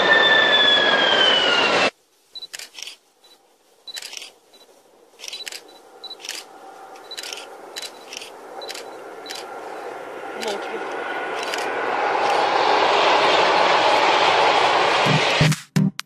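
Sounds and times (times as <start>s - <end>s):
electric train passing: 0.0s - 15.5s.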